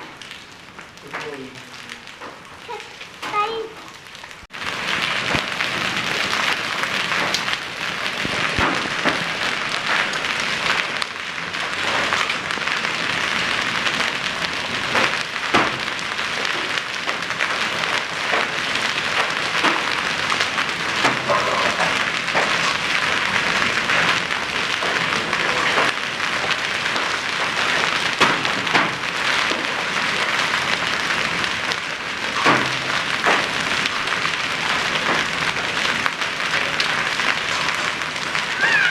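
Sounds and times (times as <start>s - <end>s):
hail cracking on hard surfaces: 0.0s - 38.9s
hailstones pelting down: 0.0s - 38.9s.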